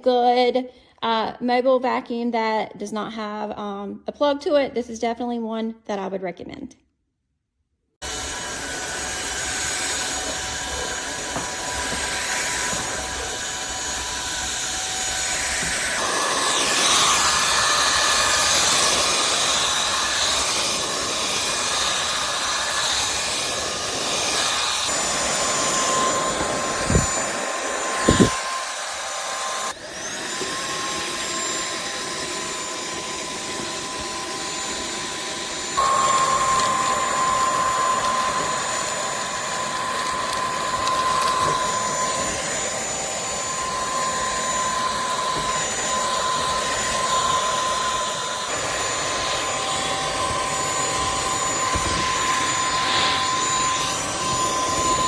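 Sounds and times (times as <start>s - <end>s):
stick vacuum motor whine: 8.0s - 55.0s.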